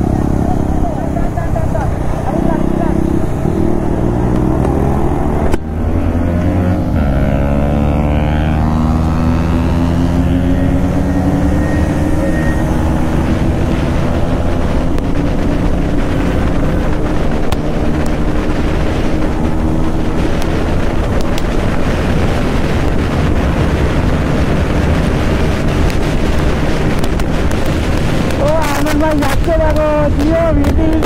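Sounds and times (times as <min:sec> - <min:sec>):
motorcycle engine accelerating: 0:00.0 - 0:31.0
wind noise on microphone: 0:00.0 - 0:31.0.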